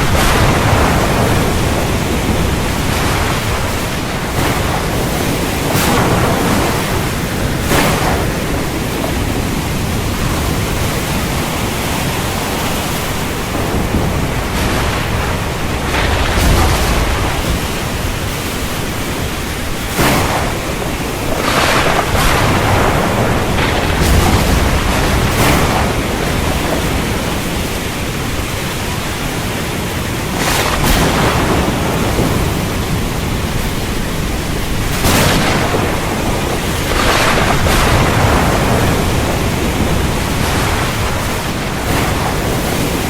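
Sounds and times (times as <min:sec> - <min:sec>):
heavy rain pouring: 0:00.0 - 0:43.0
thunder rumbling: 0:00.0 - 0:43.0.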